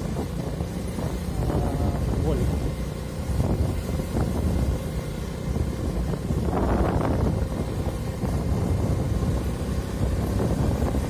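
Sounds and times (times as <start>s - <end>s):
vehicle engine rumble: 0.0s - 11.0s
wind rushing over microphone: 0.0s - 11.0s.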